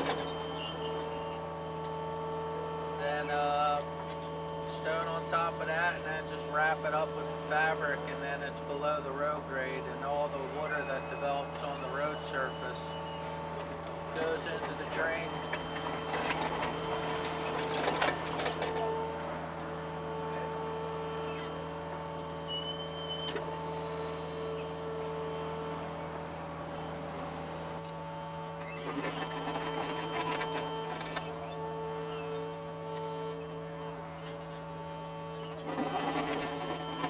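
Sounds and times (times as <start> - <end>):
excavator engine hum: 0.0 - 37.0
hydraulic whine: 0.0 - 37.0.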